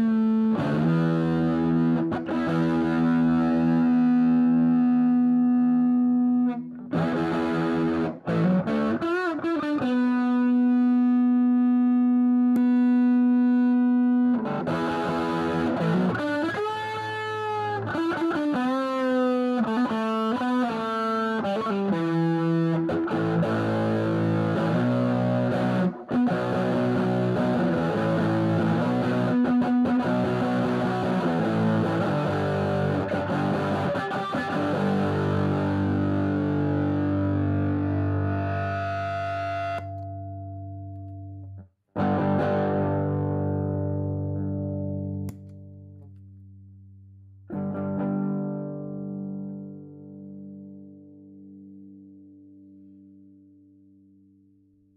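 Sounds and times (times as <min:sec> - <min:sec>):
distorted electric guitar: 0:00.0 - 0:46.2, 0:47.5 - 0:52.0.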